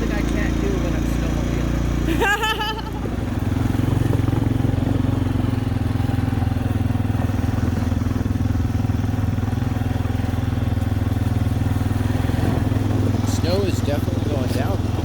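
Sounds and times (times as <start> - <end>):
quad engine running steadily: 0.0 - 15.0.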